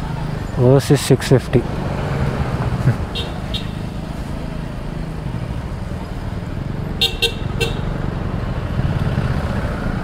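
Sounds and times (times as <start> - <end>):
motorcycle engine rumbling: 1.5 - 10.0.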